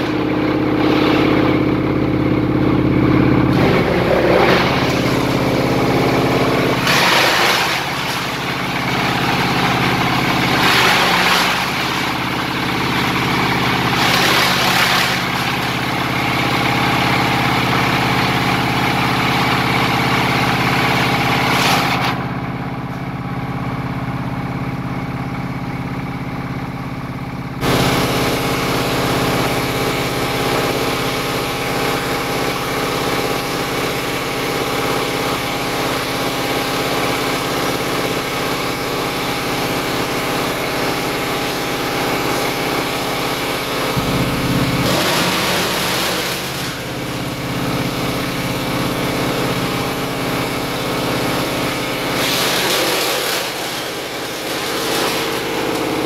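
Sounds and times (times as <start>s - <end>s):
wood chipper diesel engine running: 0.0s - 56.0s.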